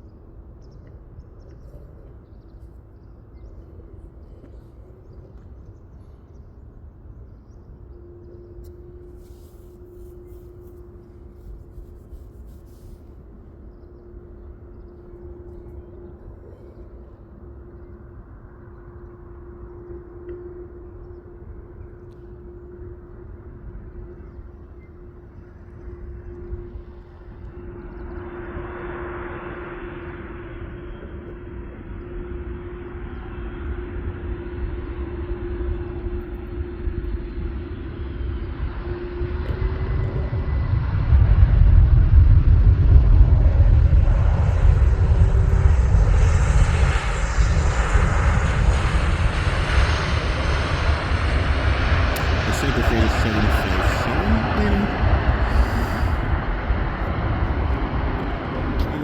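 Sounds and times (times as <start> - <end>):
constant hum: 0.0 - 59.0
distant jet engines rumbling: 0.0 - 59.0.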